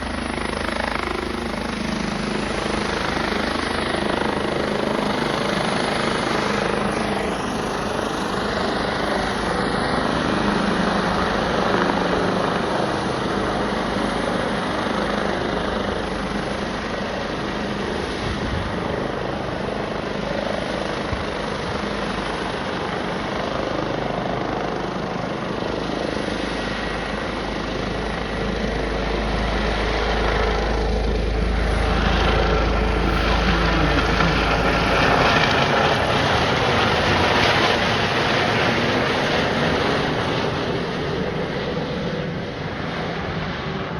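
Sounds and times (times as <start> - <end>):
helicopter flying overhead: 0.0 - 43.9.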